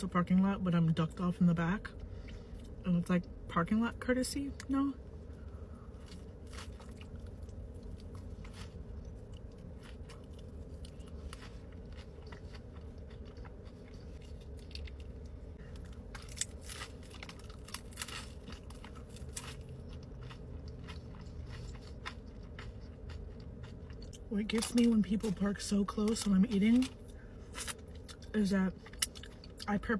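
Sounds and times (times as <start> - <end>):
person chewing with crunches: 5.0 - 29.9.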